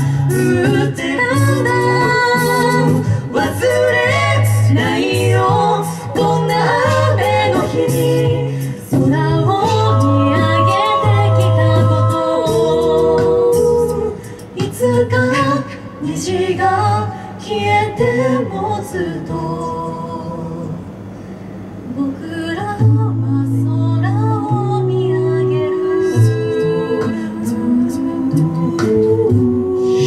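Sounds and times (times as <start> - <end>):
sung bass line: 0.0 - 20.7, 22.7 - 30.0
a cappella chord harmonies: 0.0 - 30.0.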